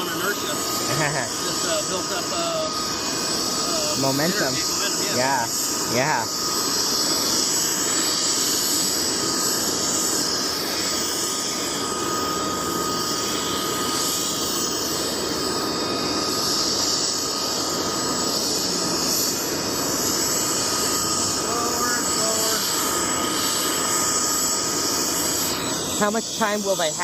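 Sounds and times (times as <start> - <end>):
gas turbine whine: 0.0 - 27.0.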